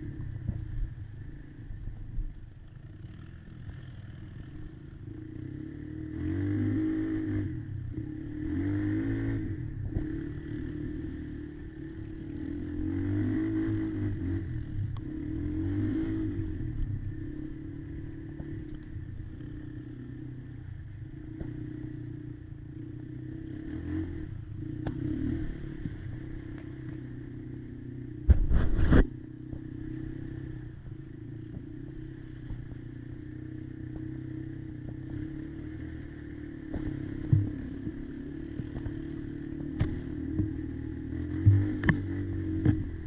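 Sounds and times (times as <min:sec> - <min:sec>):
quad bike engine running: 0:00.0 - 0:43.0.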